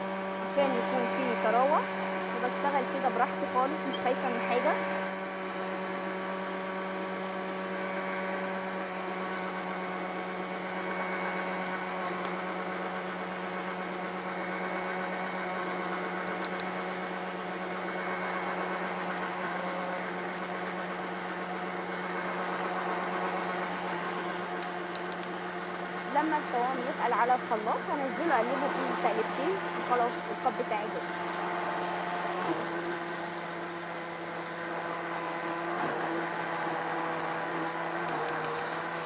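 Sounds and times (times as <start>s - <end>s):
blender motor running: 0.0s - 39.0s.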